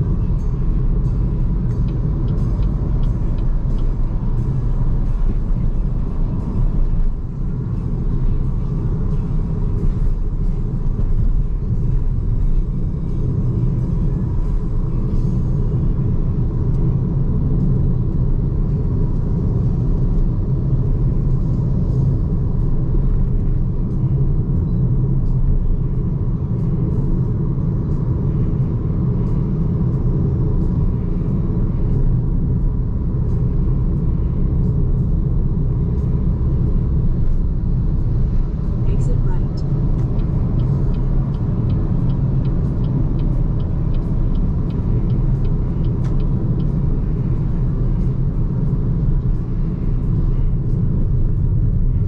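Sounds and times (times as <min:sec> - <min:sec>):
tyre and road noise: 0:00.0 - 0:52.0.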